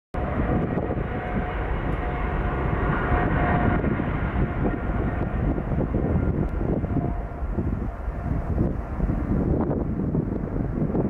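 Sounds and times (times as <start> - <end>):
jet engines at takeoff thrust: 0.2 - 11.0.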